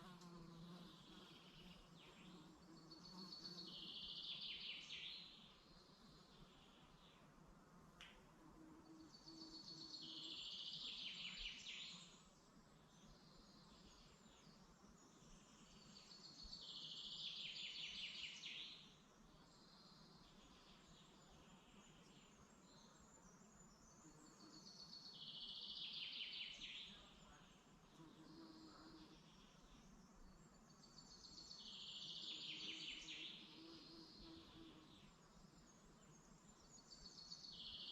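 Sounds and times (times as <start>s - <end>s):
faint bird chirps: 0.0s - 7.0s, 13.0s - 37.9s
songbird singing: 0.0s - 7.4s, 8.0s - 37.9s.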